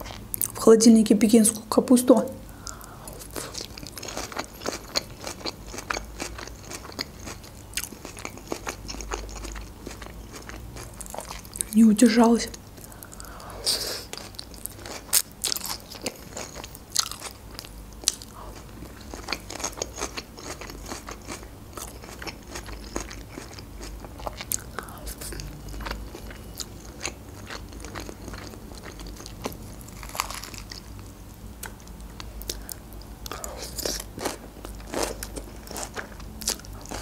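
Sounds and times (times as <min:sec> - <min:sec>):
crunchy salad chewing: 0:02.6 - 0:11.8, 0:12.8 - 0:37.0.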